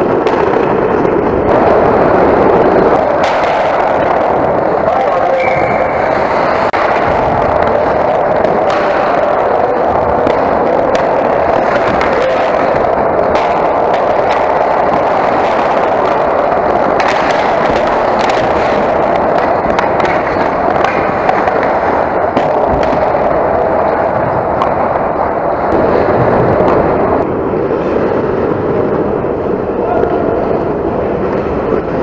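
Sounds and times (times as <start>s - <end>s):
skates scraping ice: 0.0s - 32.0s
sticks and puck clacking: 0.0s - 32.0s.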